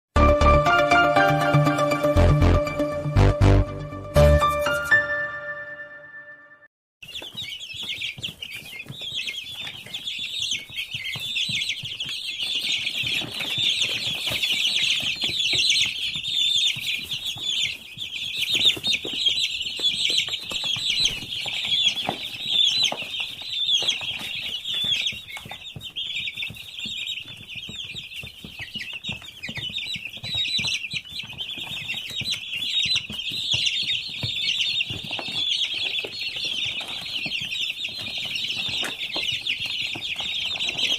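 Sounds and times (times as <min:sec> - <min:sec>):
chicks peeping: 0:07.0 - 0:40.9.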